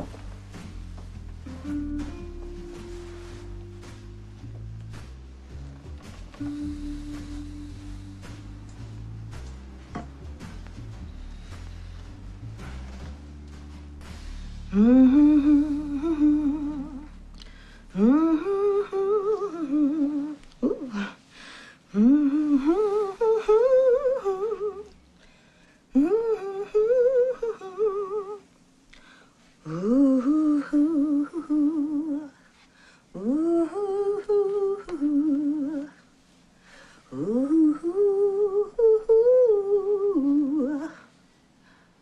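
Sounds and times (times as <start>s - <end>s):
person humming a slow tune: 0.0s - 13.0s, 14.4s - 21.2s, 21.9s - 25.0s, 25.9s - 28.5s, 29.6s - 32.4s, 33.2s - 36.1s, 37.1s - 41.1s.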